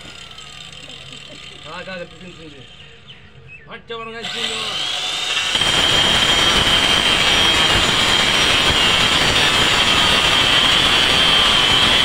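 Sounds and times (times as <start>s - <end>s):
circular saw cutting bamboo: 0.0s - 2.8s, 4.2s - 12.0s.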